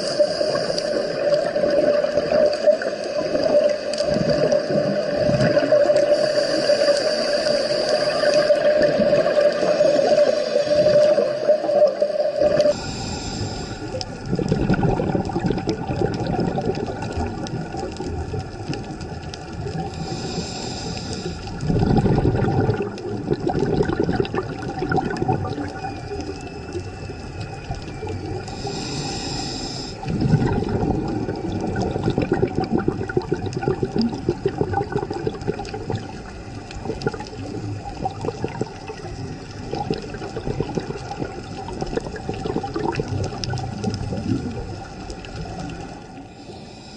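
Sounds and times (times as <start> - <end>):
exhaled bubbles underwater: 0.0 - 46.9
steady underwater hum: 0.0 - 46.9.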